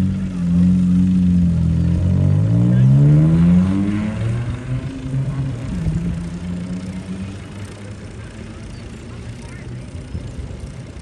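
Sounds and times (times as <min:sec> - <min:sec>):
tractor engine passing: 0:00.0 - 0:11.0.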